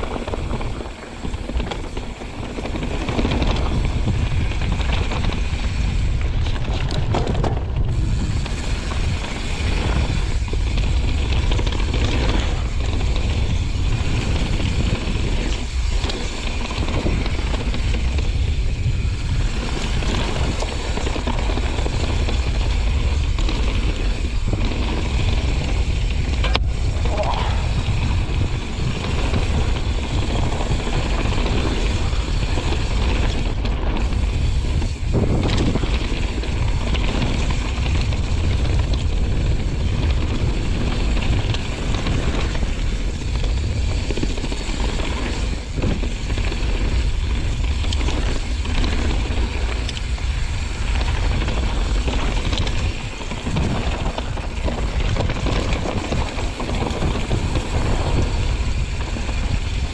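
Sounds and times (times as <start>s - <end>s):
bike knocks and rattles: 0.0s - 59.9s
bike tyres rumbling on trail: 0.0s - 59.9s
wind buffeting microphone: 0.0s - 59.9s.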